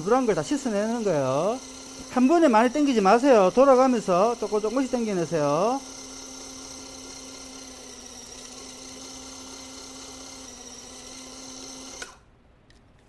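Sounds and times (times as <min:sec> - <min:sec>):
electric suction pump whining: 0:00.0 - 0:12.3.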